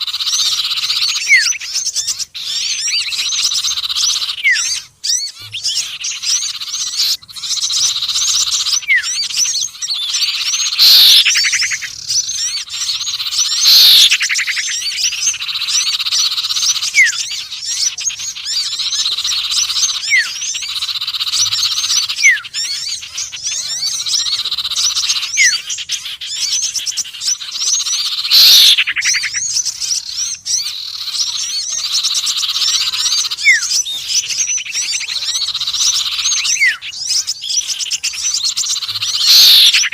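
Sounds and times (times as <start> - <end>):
whistled bird sweeps: 0.0 - 30.6, 31.2 - 39.9
high chattering bird trill: 0.0 - 39.9
loud falling bird calls: 0.0 - 39.9.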